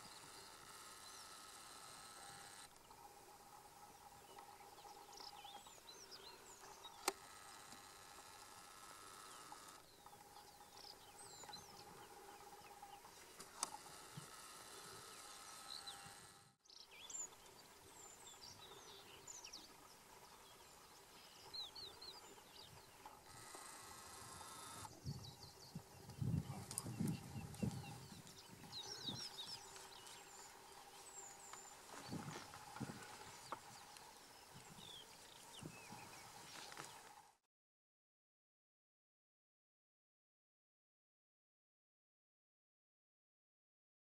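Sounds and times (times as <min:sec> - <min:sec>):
small birds chirping: 0:00.0 - 0:37.3
steady low hum: 0:00.0 - 0:37.4.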